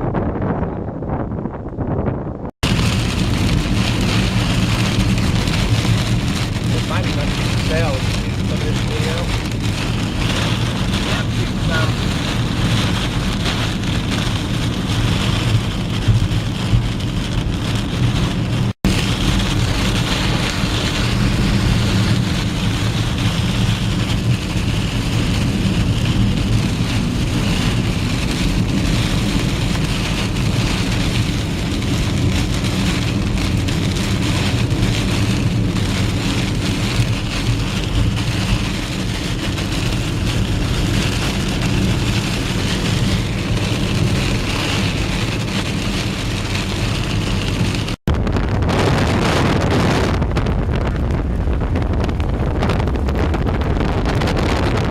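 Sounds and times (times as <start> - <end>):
engine and road rumble: 0.0 - 54.9
rain on a moving truck: 1.1 - 54.9.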